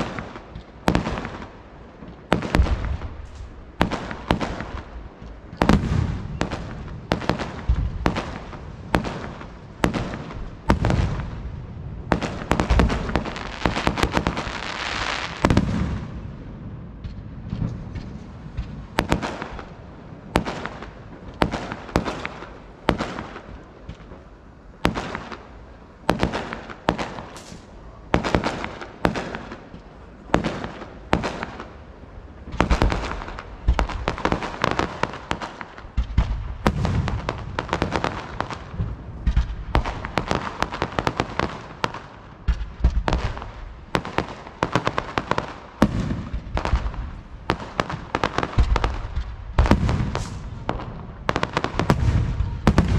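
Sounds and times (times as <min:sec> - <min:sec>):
distant fireworks bangs: 0:00.0 - 0:52.9.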